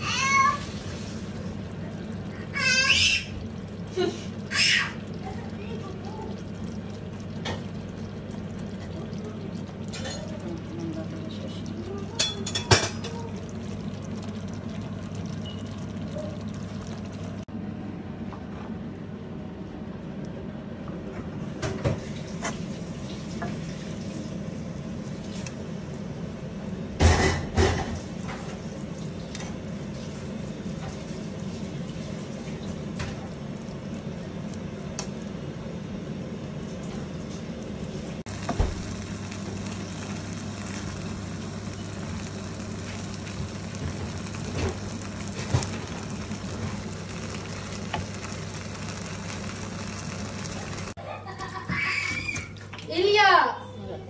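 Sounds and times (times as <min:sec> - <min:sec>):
food sizzling in a frying pan: 0:00.0 - 0:17.5, 0:21.4 - 0:53.5.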